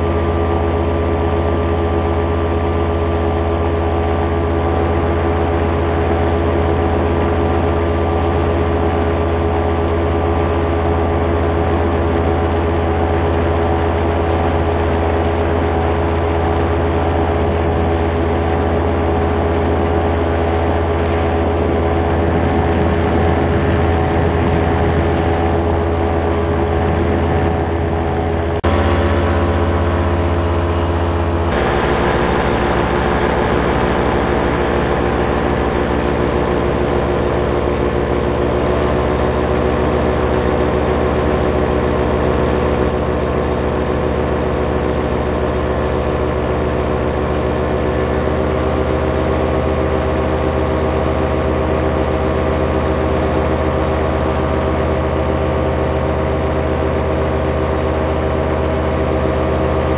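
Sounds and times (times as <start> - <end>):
paramotor engine running: 0.0 - 59.9.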